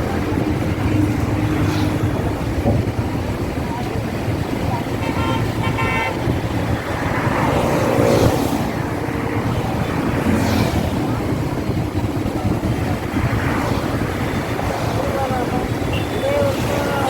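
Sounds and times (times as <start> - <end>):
traffic rumble: 0.0 - 17.0
vehicles passing by: 0.0 - 17.0.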